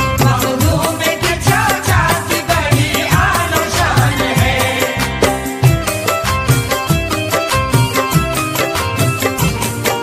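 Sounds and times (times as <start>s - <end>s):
quick drum beat: 0.0s - 10.0s.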